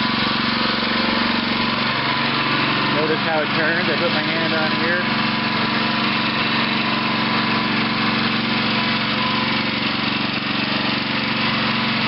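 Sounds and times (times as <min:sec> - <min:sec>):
small engine running steadily: 0:00.0 - 0:12.0.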